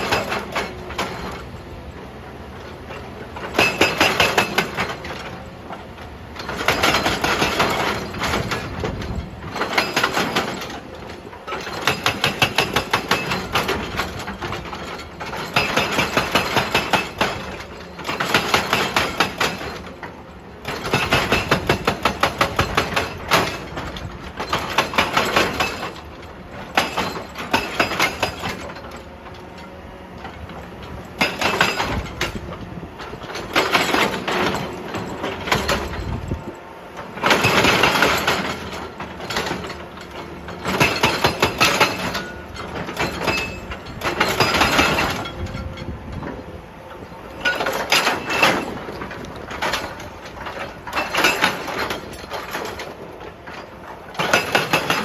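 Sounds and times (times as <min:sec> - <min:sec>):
excavator diesel engine running: 0:00.0 - 0:55.0
hydraulic breaker hammering rock: 0:00.0 - 0:55.0.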